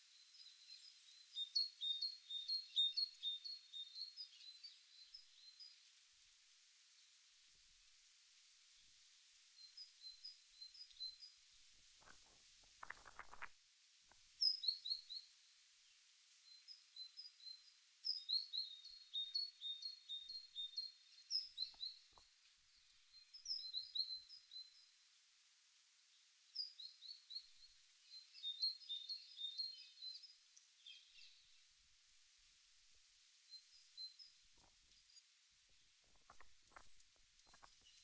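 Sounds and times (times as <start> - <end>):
songbird chirping: 0.0 - 6.0, 9.6 - 13.5, 14.1 - 25.1, 26.5 - 32.2, 33.4 - 38.0.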